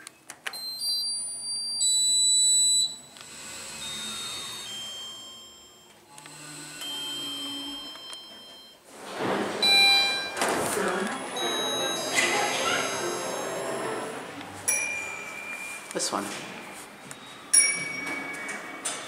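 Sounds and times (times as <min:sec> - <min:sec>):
electronic lift chime: 0:00.6 - 0:08.9, 0:09.6 - 0:10.6, 0:11.2 - 0:16.0, 0:16.6 - 0:19.0.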